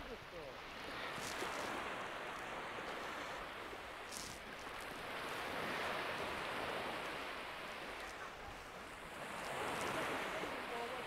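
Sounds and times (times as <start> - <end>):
waves washing up beach: 0.0 - 11.0.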